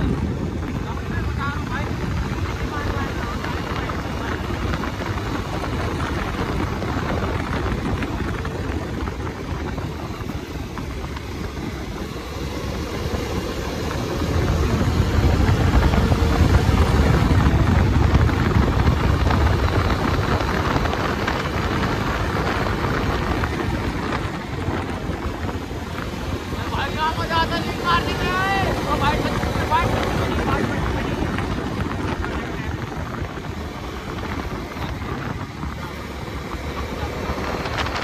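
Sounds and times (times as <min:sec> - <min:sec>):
motorcycle engine: 0:00.0 - 0:38.0
wind rushing over microphone: 0:00.0 - 0:38.0.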